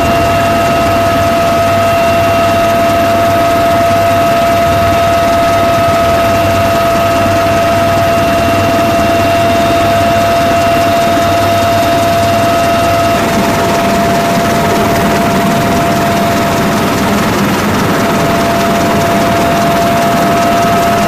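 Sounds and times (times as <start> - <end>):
helicopter engine whine and drone: 0.0 - 21.0.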